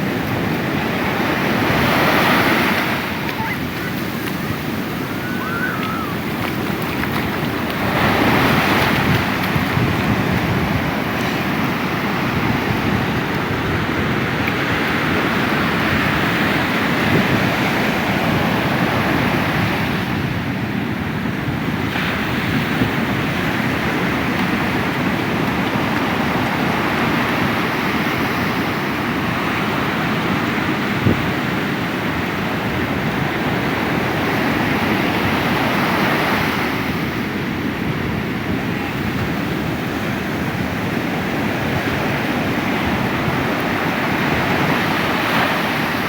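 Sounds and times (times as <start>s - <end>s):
ocean surf breaking: 0.0s - 46.0s
wind buffeting microphone: 0.0s - 46.0s.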